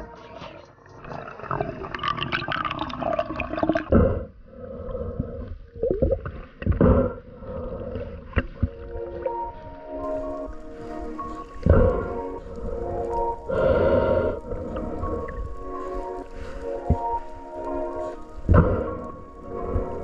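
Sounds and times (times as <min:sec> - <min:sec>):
water gurgling and sloshing: 0:00.0 - 0:20.0.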